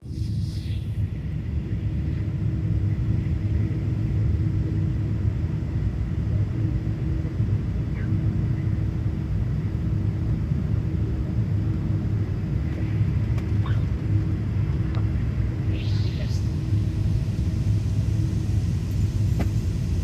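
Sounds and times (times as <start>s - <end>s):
airliner engines rumbling: 0.0s - 20.0s.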